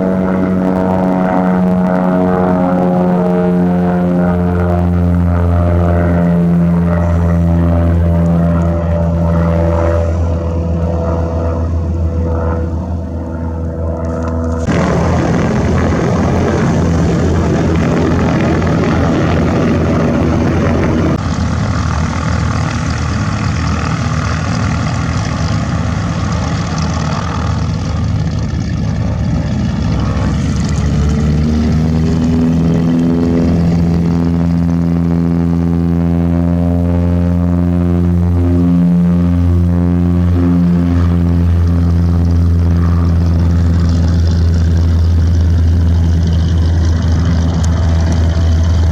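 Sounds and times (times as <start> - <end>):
low propeller drone: 0.0 - 48.9
propeller airplane engine: 0.0 - 48.9.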